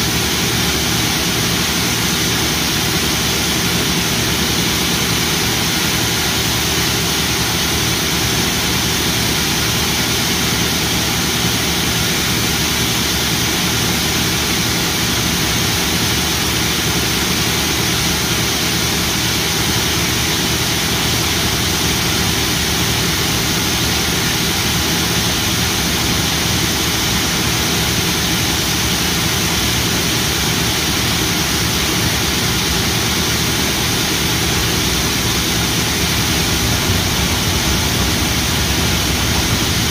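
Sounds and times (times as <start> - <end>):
combine harvester roaring: 0.0 - 39.9.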